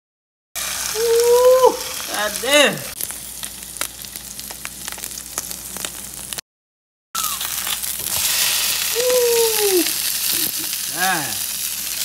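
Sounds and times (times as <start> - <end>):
fish sizzling in a frying pan: 0.6 - 6.4, 7.2 - 12.0.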